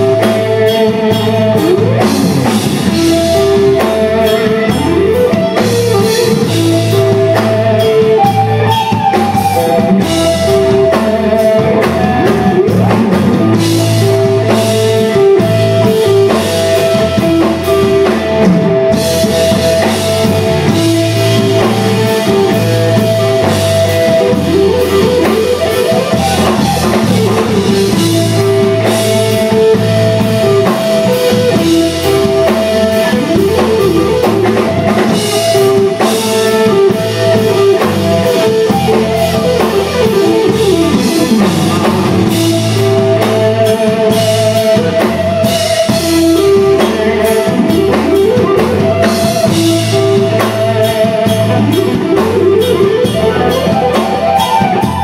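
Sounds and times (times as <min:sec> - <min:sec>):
bass guitar: 0:00.0 - 0:55.0
drum kit: 0:00.0 - 0:55.0
electric guitar lead lines: 0:00.0 - 0:55.0.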